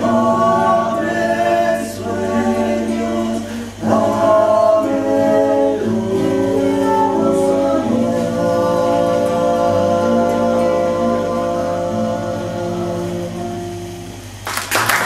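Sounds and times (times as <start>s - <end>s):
man and woman singing in harmony: 0.0s - 14.2s.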